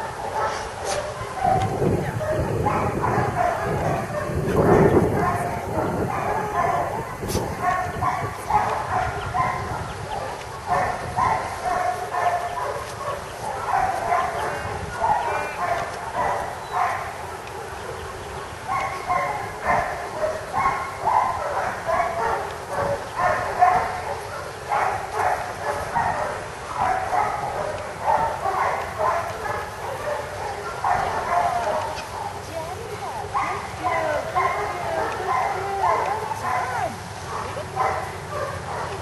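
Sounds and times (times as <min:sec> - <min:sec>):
dog yipping and barking: 0:00.0 - 0:17.1, 0:18.7 - 0:32.4, 0:33.3 - 0:39.0.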